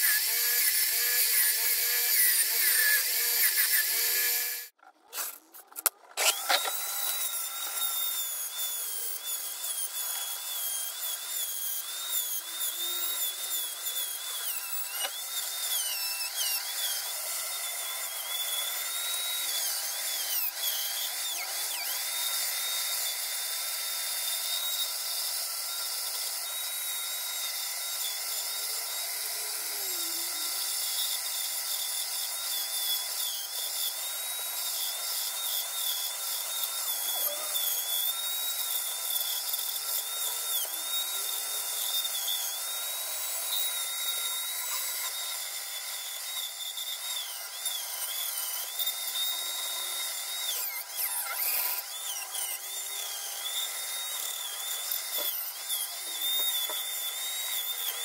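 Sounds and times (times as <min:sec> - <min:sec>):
high-speed power tool whining: 0:00.0 - 0:05.4, 0:06.0 - 0:58.0.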